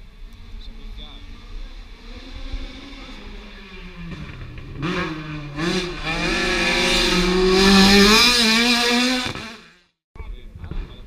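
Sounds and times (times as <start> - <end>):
rally car engine at high revs: 0.0 - 9.9.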